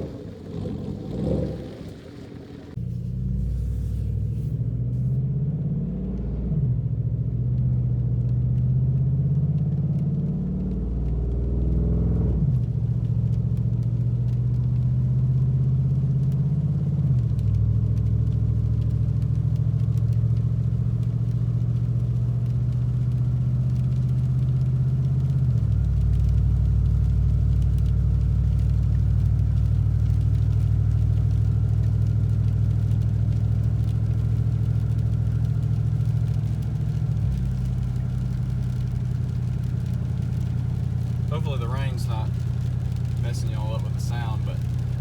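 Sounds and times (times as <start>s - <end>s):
pickup engine shifting gears: 0.0s - 45.0s.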